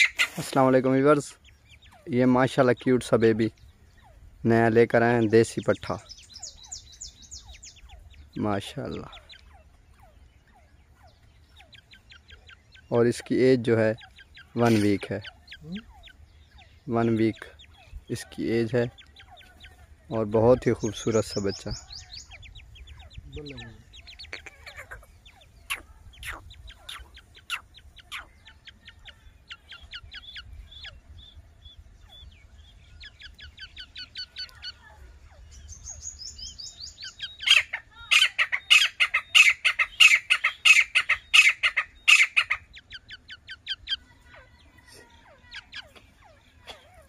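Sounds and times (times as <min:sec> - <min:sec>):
chick peeping: 0:00.0 - 0:47.0.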